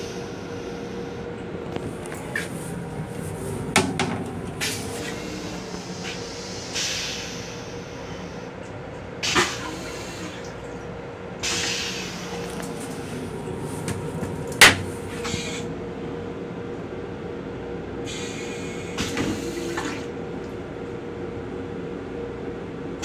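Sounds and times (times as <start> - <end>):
railcar hum and rushing: 0.0 - 23.0.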